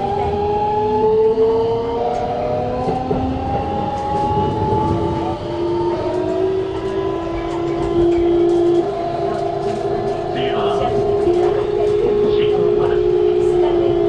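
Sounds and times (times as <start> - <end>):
electric train inverter whine: 0.0 - 14.0
wheels rumbling on rail: 0.0 - 14.0.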